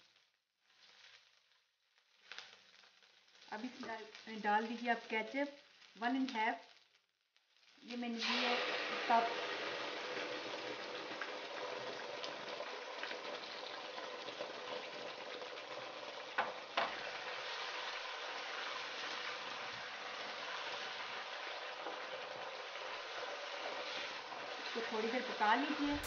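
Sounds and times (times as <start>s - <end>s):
sauce sizzling in hot oil: 0.0s - 26.0s.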